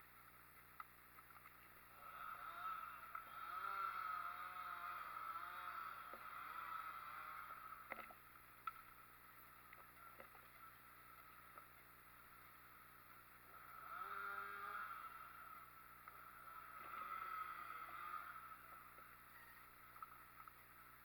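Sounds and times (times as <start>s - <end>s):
faint engine wavering: 1.6s - 21.0s.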